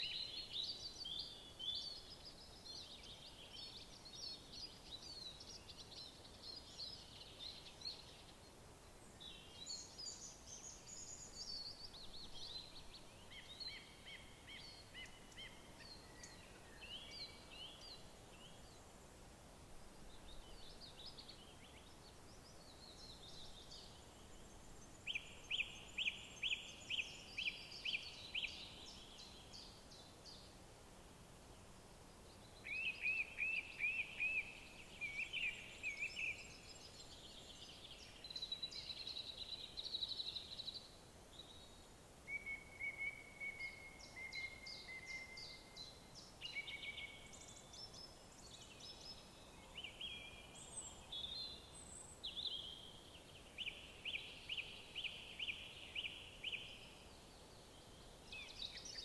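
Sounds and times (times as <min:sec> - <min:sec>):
songbirds singing: 0:00.0 - 0:19.2, 0:20.0 - 0:30.6, 0:31.5 - 0:59.0
faint steady hiss: 0:00.0 - 0:59.0.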